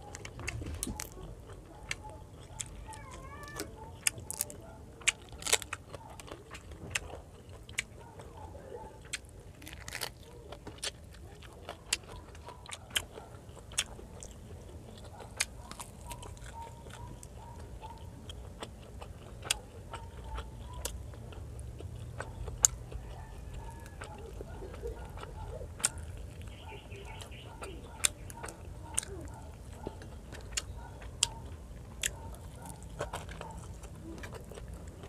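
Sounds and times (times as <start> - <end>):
chewing with wet smacks: 0.0 - 35.0.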